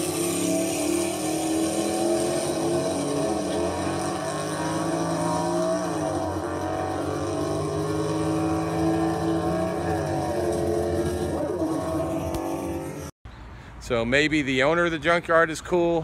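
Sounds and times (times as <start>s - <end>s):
car engine running: 0.0s - 13.1s.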